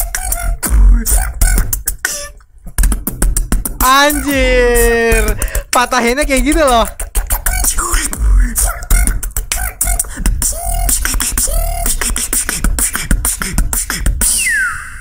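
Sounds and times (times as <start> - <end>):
person beatboxing: 0.0 - 14.4.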